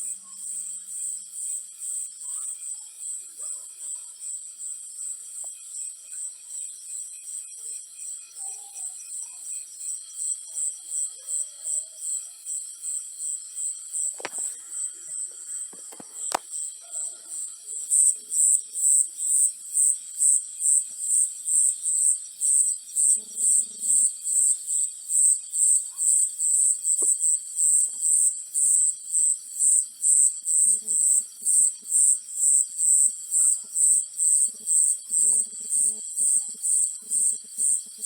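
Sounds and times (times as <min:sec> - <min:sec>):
cricket chirping: 0:00.0 - 0:38.0.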